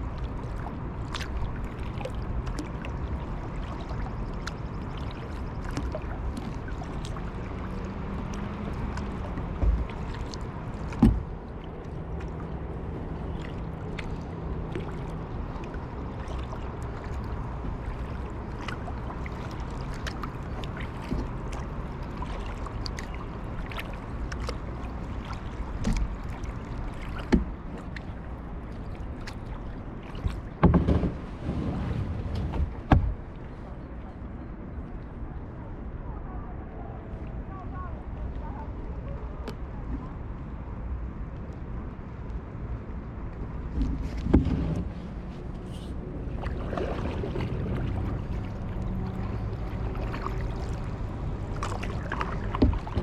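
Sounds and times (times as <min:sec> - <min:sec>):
paddle drips and splashes: 0:00.0 - 0:35.2, 0:38.0 - 0:53.0
steady water noise: 0:00.0 - 0:53.0.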